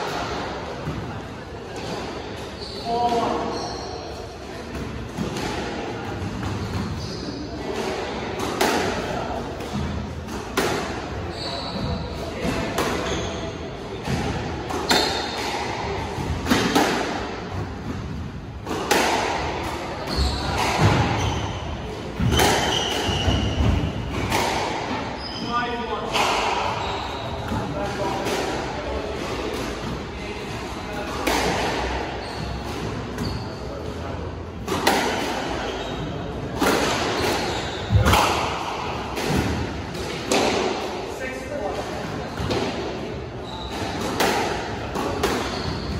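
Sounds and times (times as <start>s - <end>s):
squash ball hitting rackets and walls: 4.6s - 25.1s, 26.0s - 41.1s, 41.7s - 45.9s.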